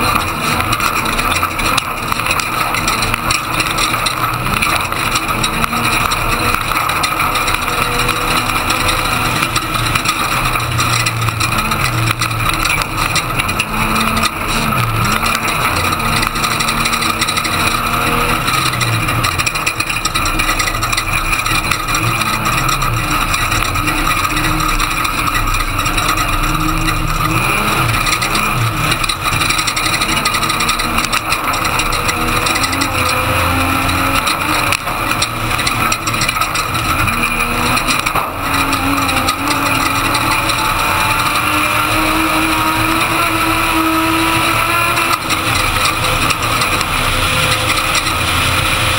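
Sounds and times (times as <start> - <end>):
road and wind noise: 0.0 - 48.9
truck engine accelerating: 0.0 - 48.9.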